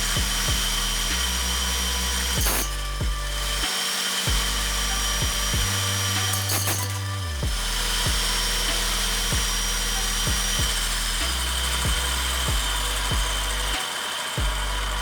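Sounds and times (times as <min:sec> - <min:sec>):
electric grinder whining: 0:00.0 - 0:15.0
electronic music with kick drum: 0:00.0 - 0:15.0.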